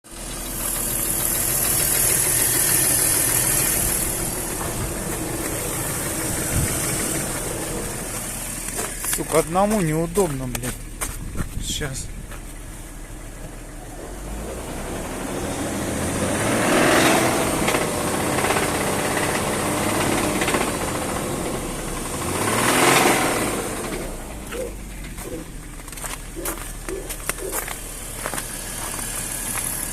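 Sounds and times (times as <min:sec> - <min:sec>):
engine running with a knock: 0:00.5 - 0:13.6, 0:17.6 - 0:29.9.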